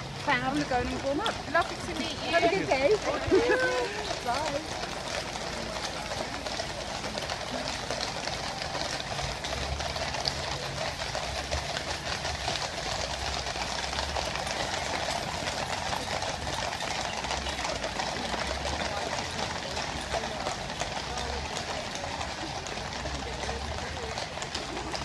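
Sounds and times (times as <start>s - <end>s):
horse hooves clattering on wet road: 0.0s - 25.0s.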